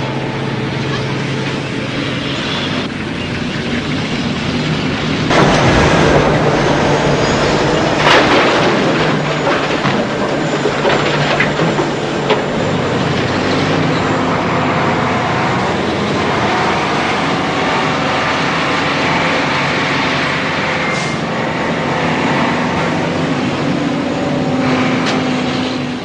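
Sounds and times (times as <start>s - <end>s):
heavy diesel engines droning: 0.0s - 26.0s.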